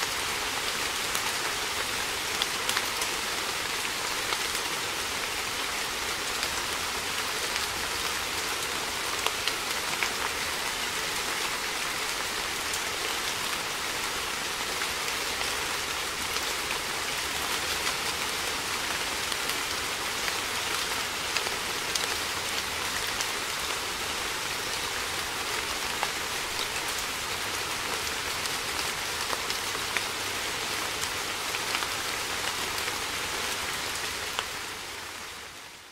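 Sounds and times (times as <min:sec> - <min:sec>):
raindrops ticking on surfaces: 0:00.0 - 0:35.9
steady rain hiss: 0:00.0 - 0:35.9.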